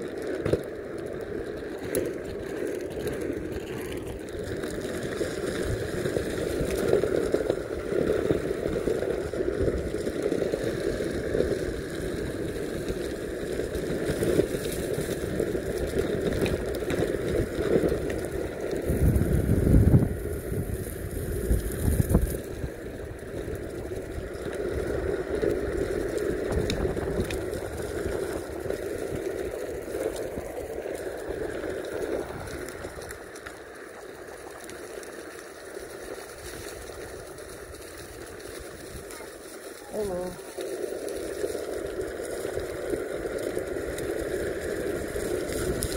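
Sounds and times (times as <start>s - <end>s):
skateboard rolling over dirt and leaves: 0.0s - 45.9s.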